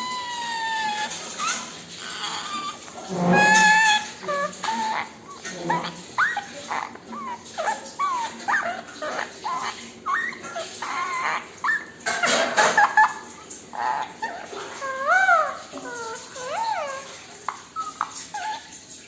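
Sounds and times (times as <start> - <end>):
parrot chirps and squawks: 0.0 - 19.0.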